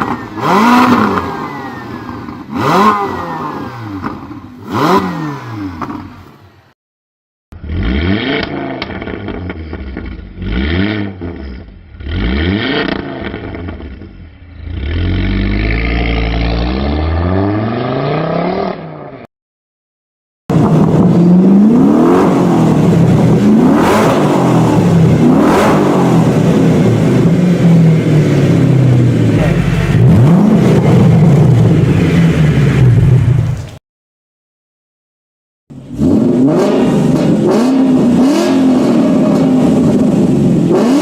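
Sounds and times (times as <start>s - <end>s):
car engine revving in blips: 0.0s - 6.2s, 7.6s - 19.2s, 20.5s - 33.8s, 35.7s - 41.0s
car engine revving continuously: 0.0s - 6.4s, 7.6s - 19.0s, 20.5s - 33.7s, 35.7s - 41.0s.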